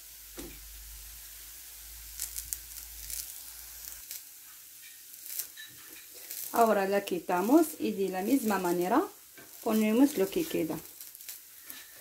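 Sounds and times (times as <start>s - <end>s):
flatbreads sizzling in a pan: 0.0s - 12.0s.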